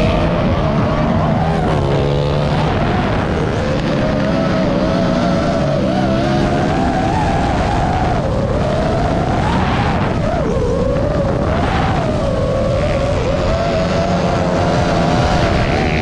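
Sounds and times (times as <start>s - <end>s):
rush of wind: 0.0s - 16.0s.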